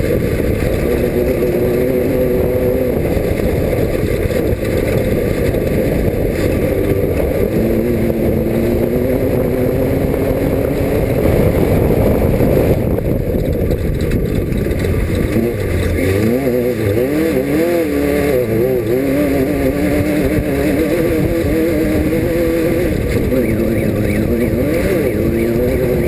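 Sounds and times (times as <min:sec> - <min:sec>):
heavy rumbling noise: 0:00.0 - 0:26.0
race car engine running hard: 0:00.0 - 0:26.0.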